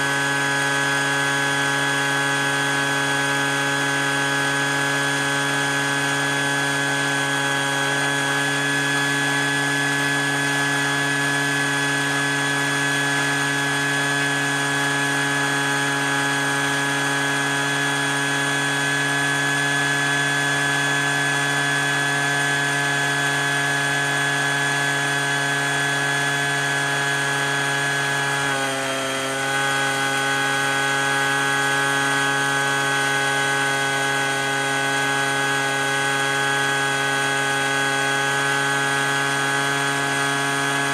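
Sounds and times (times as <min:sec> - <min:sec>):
leaf blower and vacuums running: 0:00.0 - 0:40.9.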